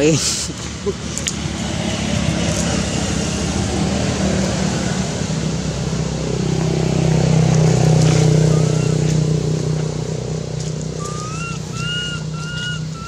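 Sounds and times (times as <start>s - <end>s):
motor engine humming: 0.6s - 13.0s.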